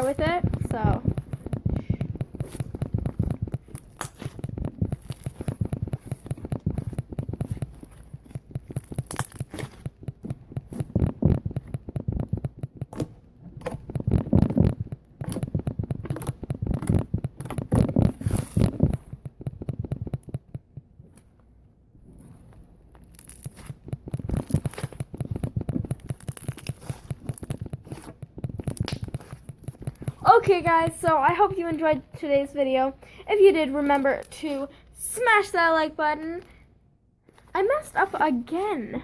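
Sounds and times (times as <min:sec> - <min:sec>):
slime squelching and crackling: 0:00.0 - 0:39.0.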